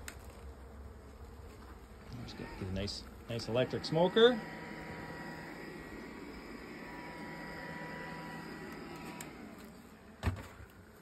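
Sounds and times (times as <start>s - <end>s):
fan motor whirring: 2.1s - 11.0s.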